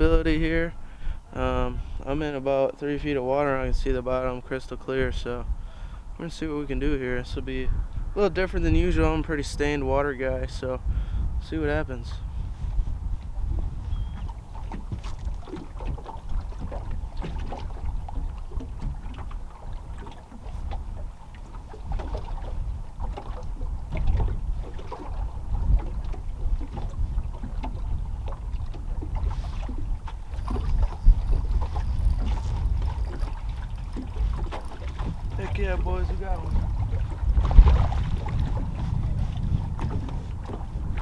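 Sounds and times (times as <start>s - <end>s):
waves lapping against boat hull: 0.0s - 41.0s
wind buffeting microphone: 0.0s - 41.0s.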